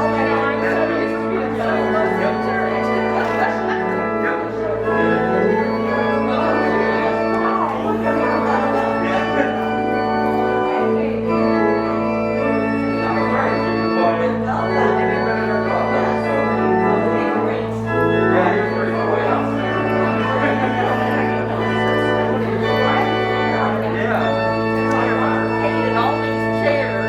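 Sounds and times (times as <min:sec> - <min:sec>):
organ playing slow chords: 0:00.0 - 0:27.0.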